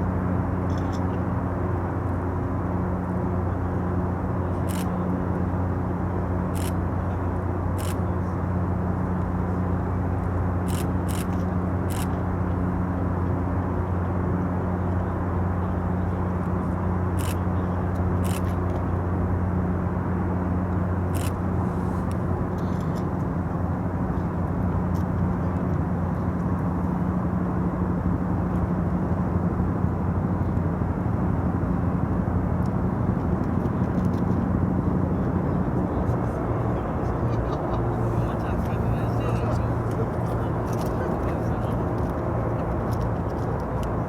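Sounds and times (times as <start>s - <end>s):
ship diesel machinery hum: 0.0s - 44.0s.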